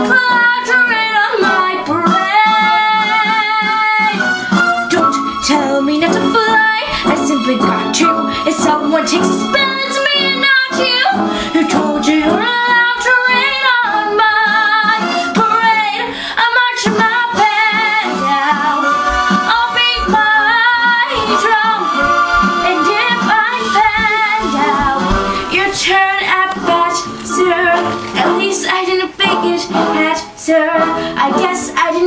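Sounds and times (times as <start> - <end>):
instrumental accompaniment: 0.0 - 32.0
woman singing with vibrato: 0.0 - 32.0.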